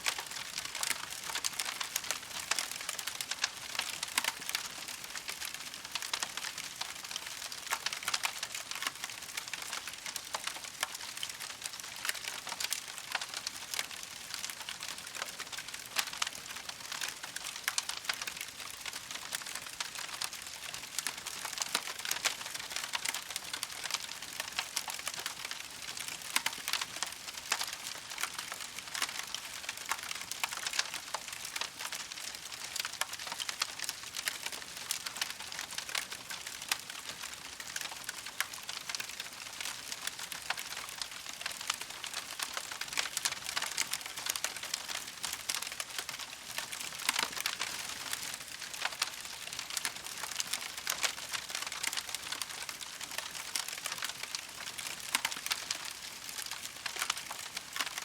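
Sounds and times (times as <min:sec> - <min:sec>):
campfire crackling: 0:00.1 - 0:58.0.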